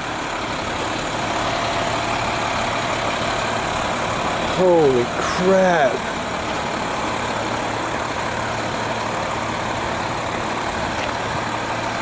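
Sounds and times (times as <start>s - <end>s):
large vehicle engine idling: 0.0s - 12.0s.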